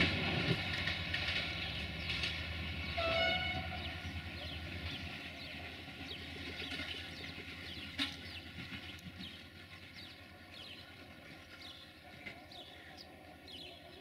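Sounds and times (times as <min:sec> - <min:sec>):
train rumbling: 0:00.0 - 0:14.0
birds chirping: 0:00.8 - 0:14.0.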